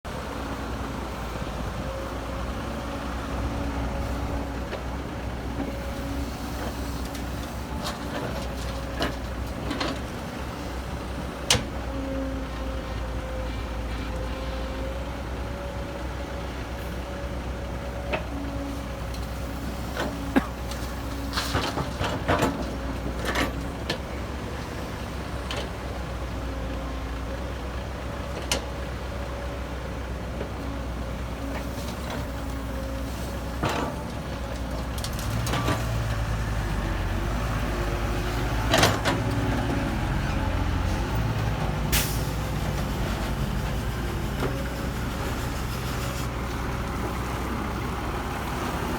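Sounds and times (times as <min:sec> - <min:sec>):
diesel machinery running: 0:00.1 - 0:48.9.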